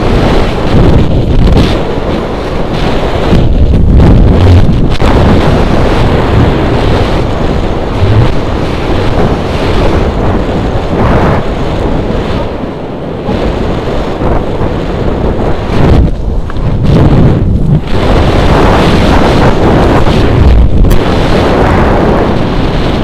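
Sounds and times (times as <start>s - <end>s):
gusting wind noise on microphone: 0.0s - 23.0s.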